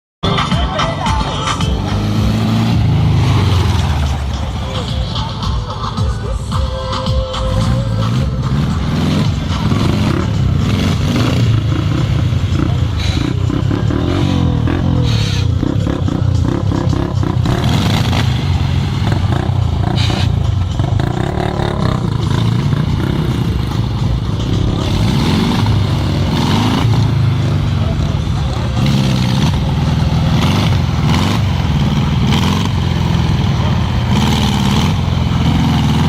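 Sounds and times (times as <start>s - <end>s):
off-road vehicle engine revving: 0.2s - 5.6s, 7.4s - 36.0s.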